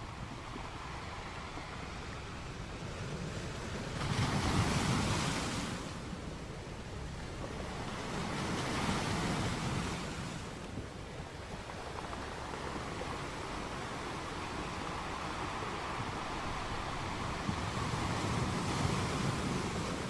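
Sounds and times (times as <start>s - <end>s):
sea waves on shore: 0.0s - 20.0s.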